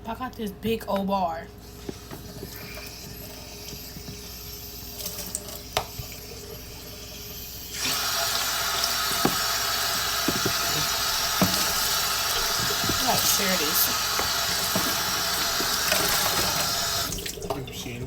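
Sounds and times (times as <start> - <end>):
tap water running: 1.0 - 18.0.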